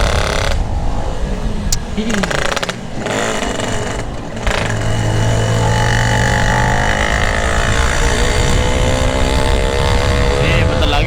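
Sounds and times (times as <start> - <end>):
two-stroke motorcycle engine: 1.7 - 11.0.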